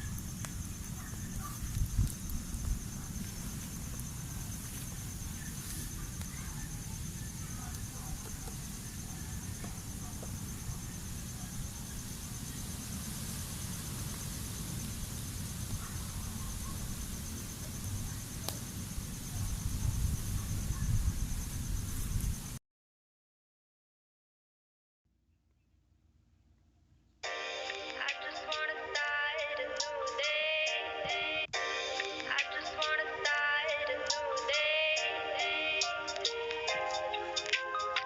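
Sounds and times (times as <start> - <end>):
insects trilling: 0.0 - 22.6, 27.3 - 38.0.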